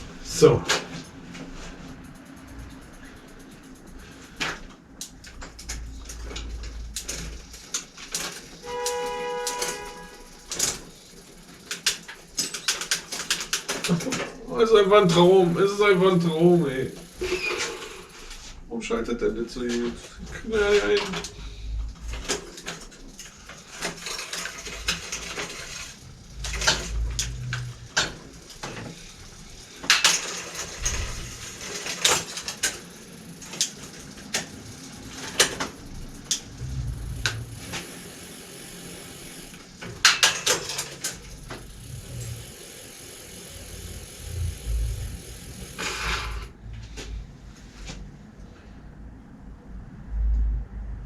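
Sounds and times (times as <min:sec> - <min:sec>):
bicycle gears clicking and rattling: 0:00.0 - 0:47.3.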